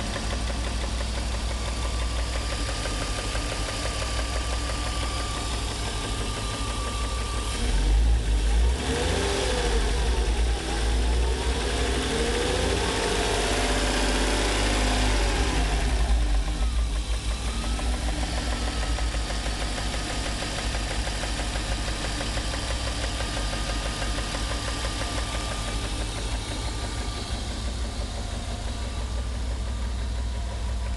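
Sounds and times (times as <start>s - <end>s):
car engine idling and revving: 0.0s - 30.9s
car engine rapid ticking: 0.0s - 30.9s.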